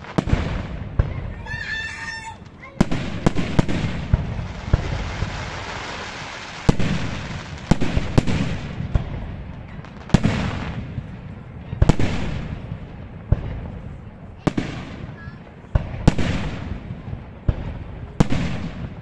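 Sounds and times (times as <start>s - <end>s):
fireworks bursting with echo: 0.0s - 19.0s.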